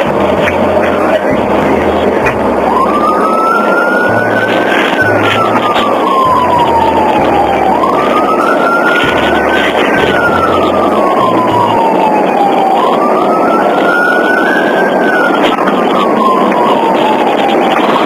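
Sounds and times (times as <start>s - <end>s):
police siren wailing: 0.0s - 18.0s
road and engine noise: 0.0s - 18.0s.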